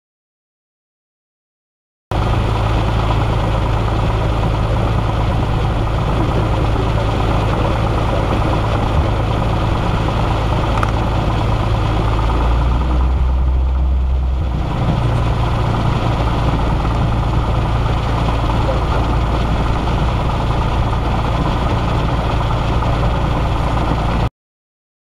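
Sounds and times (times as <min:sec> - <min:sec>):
light airplane engine idling: 0:02.1 - 0:24.3.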